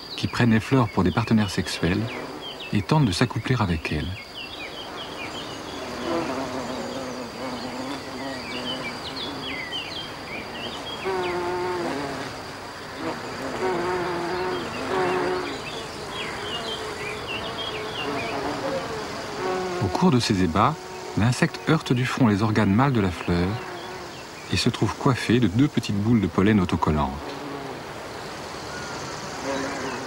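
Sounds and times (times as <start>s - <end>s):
bee buzzing: 1.2s - 3.0s, 3.8s - 24.7s, 26.2s - 30.0s.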